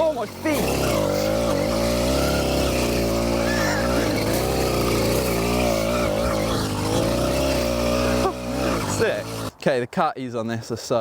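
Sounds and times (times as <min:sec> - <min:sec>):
two-stroke engine revving: 0:00.0 - 0:09.6.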